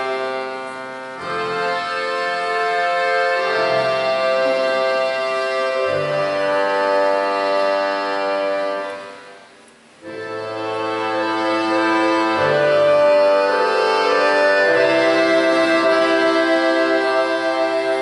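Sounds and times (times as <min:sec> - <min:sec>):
folk orchestra sustained chords: 0:00.0 - 0:18.0.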